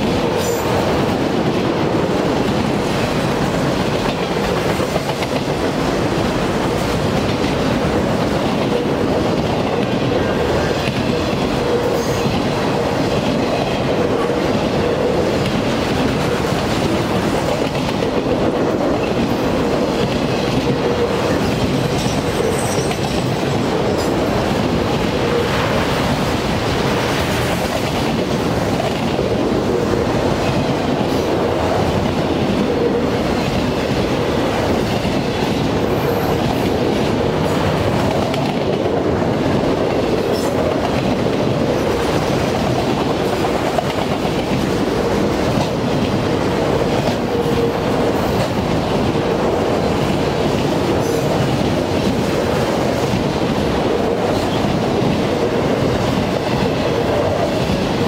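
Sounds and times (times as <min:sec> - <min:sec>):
steel wheels clattering on rail: 0:00.0 - 0:58.0.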